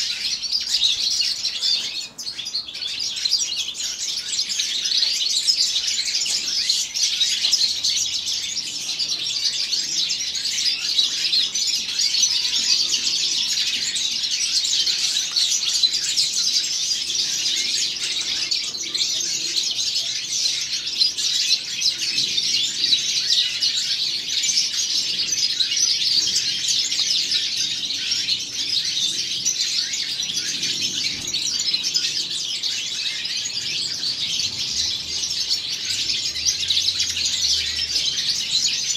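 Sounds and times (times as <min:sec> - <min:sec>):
goldfinch twittering song: 0:00.0 - 0:38.9.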